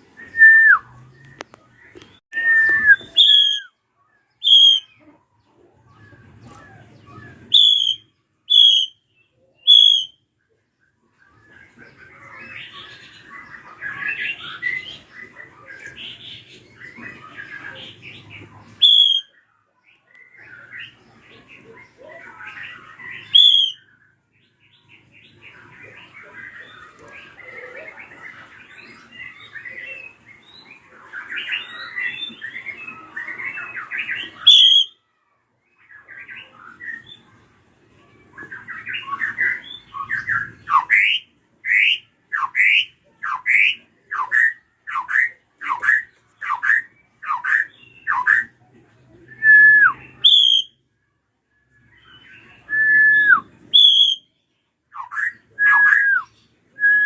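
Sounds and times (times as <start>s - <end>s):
drongo calling: 0.0s - 3.8s, 4.4s - 10.2s, 11.2s - 19.4s, 20.2s - 24.0s, 24.8s - 35.0s, 38.4s - 48.6s, 52.4s - 54.3s, 54.9s - 57.0s.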